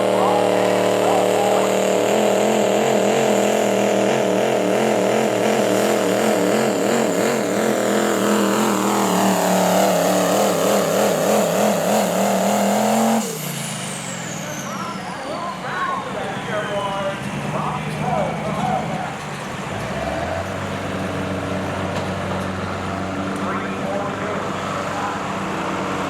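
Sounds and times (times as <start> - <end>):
engine revving under load: 0.0 - 26.0.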